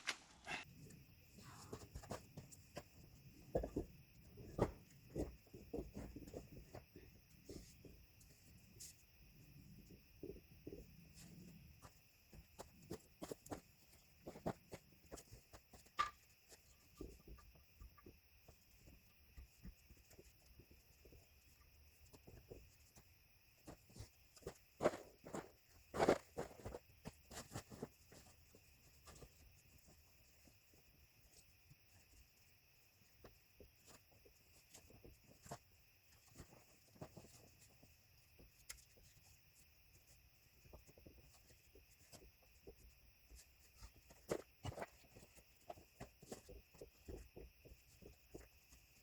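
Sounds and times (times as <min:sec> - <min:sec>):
crickets chirring: 0:00.6 - 0:49.0.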